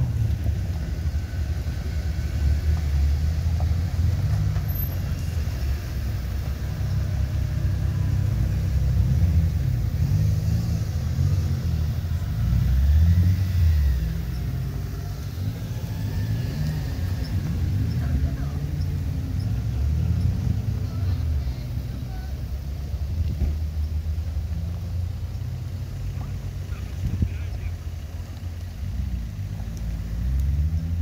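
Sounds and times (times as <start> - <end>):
vehicle engines rumbling past: 0.0 - 31.0.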